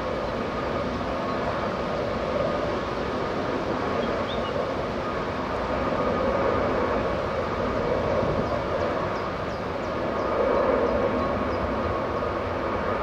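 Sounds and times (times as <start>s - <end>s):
jet engines rumbling with whine: 0.0s - 13.0s.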